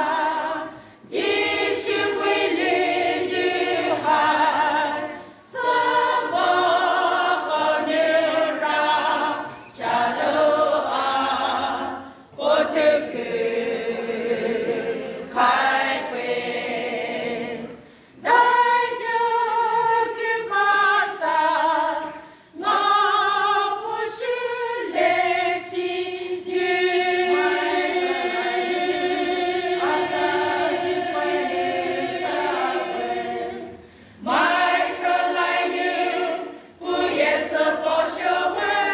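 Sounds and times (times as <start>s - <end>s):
women's choir singing a cappella: 0.0s - 38.9s.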